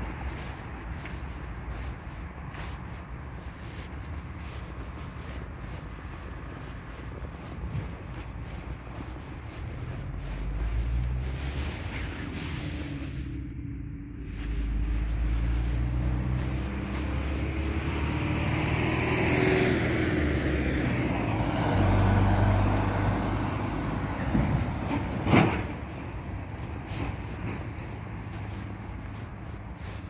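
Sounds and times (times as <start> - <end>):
heavy vehicle engine rumble: 0.0 - 30.0
road traffic passing: 0.0 - 30.0.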